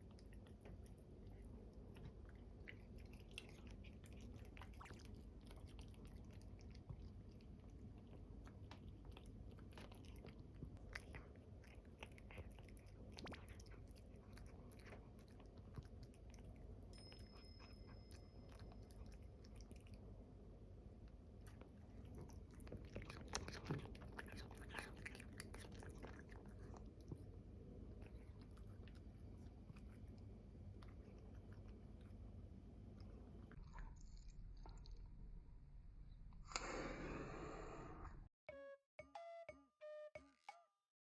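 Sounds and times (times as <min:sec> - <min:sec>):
cat chewing food: 0:00.0 - 0:35.2.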